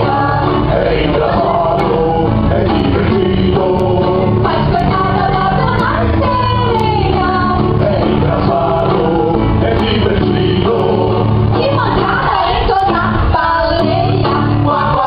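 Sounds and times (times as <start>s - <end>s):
steady bass accompaniment: 0.0s - 15.0s
voices singing a melody: 0.0s - 15.0s.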